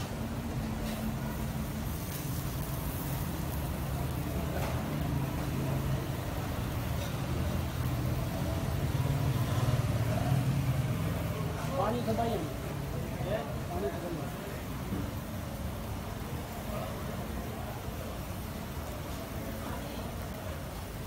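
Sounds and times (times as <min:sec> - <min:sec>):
background noise: 0:00.0 - 0:21.0.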